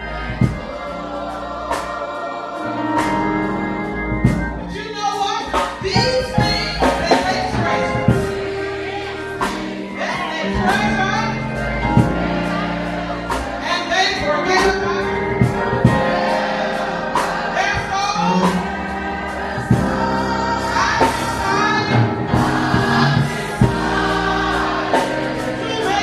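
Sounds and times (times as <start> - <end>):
choir singing gospel music: 0.0 - 26.0.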